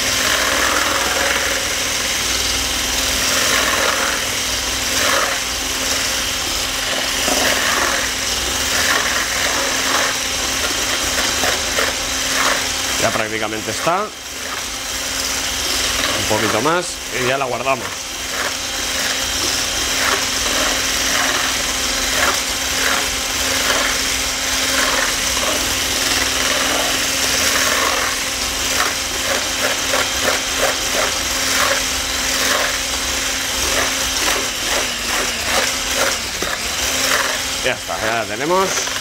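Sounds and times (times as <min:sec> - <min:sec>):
electric hand mixer running: 0:00.0 - 0:39.0
whisk scraping a metal bowl: 0:00.0 - 0:39.0.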